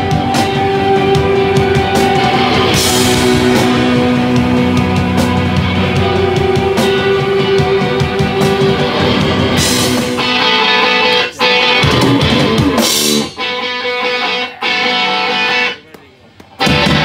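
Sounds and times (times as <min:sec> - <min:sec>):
drum kit: 0:00.0 - 0:15.8, 0:16.5 - 0:17.0
electric guitar: 0:00.0 - 0:17.0.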